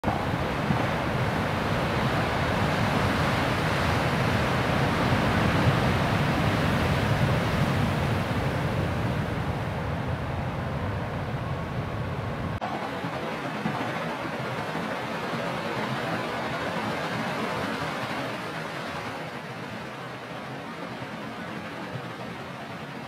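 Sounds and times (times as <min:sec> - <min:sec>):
wind buffeting microphone: 0:00.0 - 0:22.7
surf roaring: 0:00.0 - 0:23.0.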